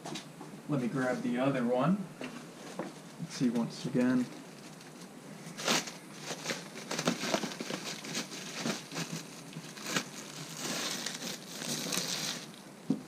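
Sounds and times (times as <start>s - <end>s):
plastic crinkling and rustling: 2.3s - 13.0s.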